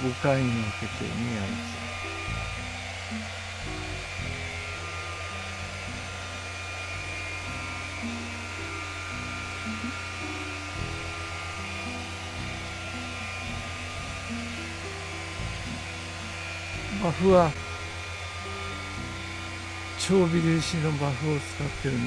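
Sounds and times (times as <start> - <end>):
background music: 0.0 - 22.0
polisher whining: 0.0 - 22.0.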